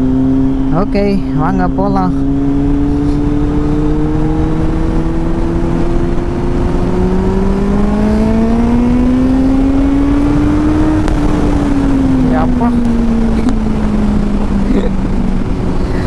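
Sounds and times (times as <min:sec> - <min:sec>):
motorcycle engine accelerating: 0:00.0 - 0:16.0
wind rushing: 0:02.2 - 0:16.0.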